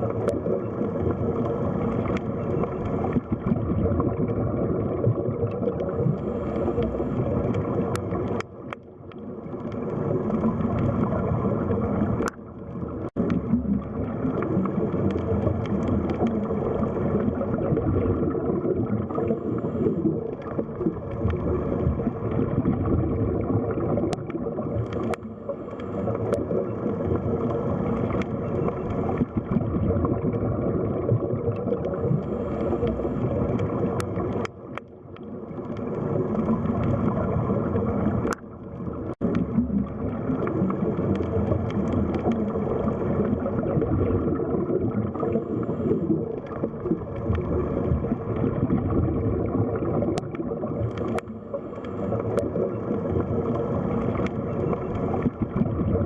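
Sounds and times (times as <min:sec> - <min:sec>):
faint underwater clicks: 0:00.0 - 0:56.0
underwater gurgling wash: 0:00.0 - 0:56.0.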